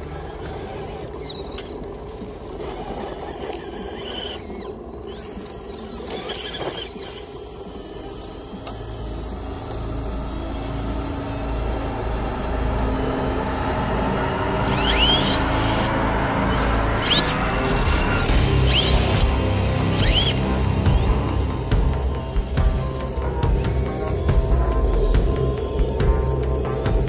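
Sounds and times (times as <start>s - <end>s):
motor whirring with high whine: 0.0s - 27.0s
rc car grinding over leaves: 0.0s - 27.0s.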